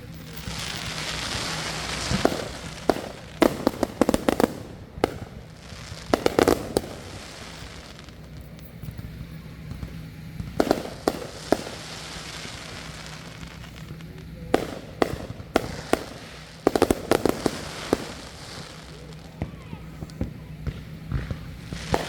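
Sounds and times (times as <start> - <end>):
fireworks bangs: 0.0 - 22.0
low hum: 0.0 - 22.0.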